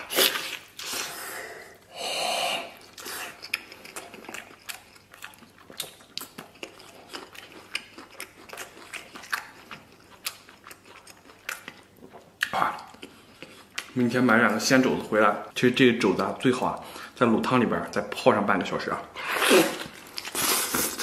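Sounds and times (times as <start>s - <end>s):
person chewing food: 0.0s - 15.2s, 19.2s - 21.0s.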